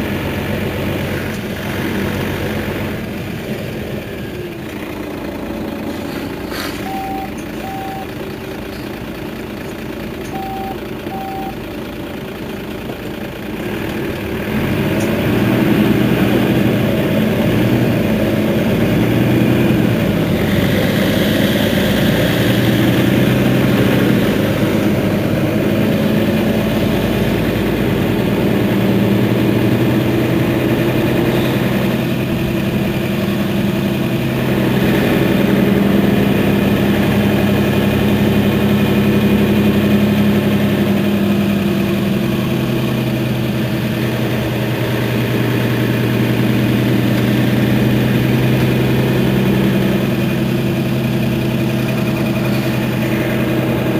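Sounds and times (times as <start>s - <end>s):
bus diesel engine idling: 0.0s - 53.9s.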